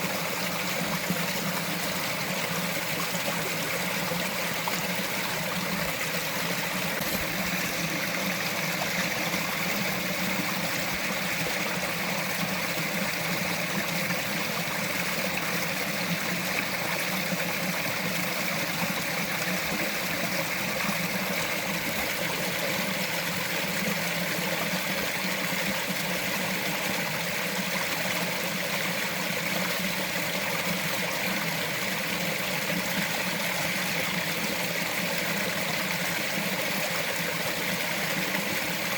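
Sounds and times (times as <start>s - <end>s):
stream trickling over rocks: 0.0s - 38.9s.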